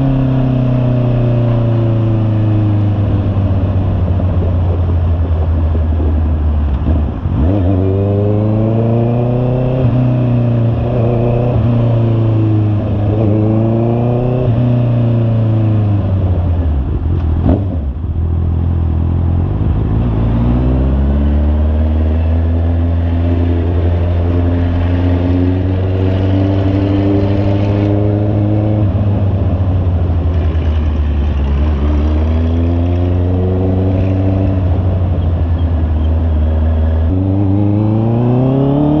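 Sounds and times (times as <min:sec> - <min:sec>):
motorcycle engine revving: 0:06.7 - 0:39.0.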